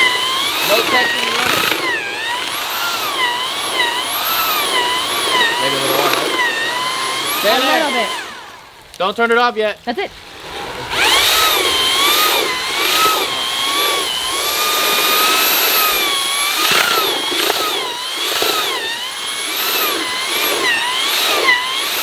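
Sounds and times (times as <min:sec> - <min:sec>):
electric paddle mixer churning concrete: 0:00.0 - 0:22.0.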